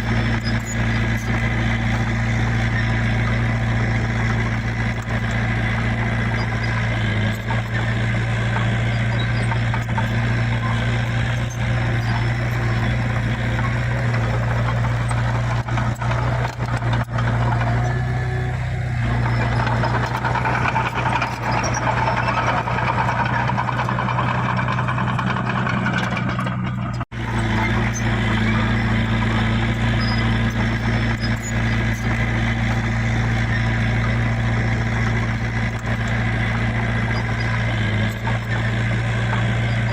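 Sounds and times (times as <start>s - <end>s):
heavy diesel machinery engine drone: 0.0s - 39.9s.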